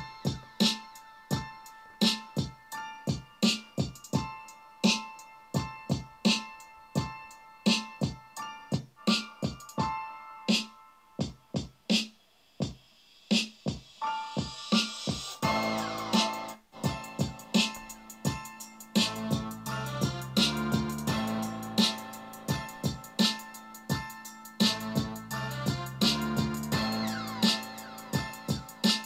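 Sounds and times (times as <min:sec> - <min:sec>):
keyboard chords: 0:00.0 - 0:11.8, 0:14.0 - 0:29.0
drum machine beat: 0:00.0 - 0:29.0.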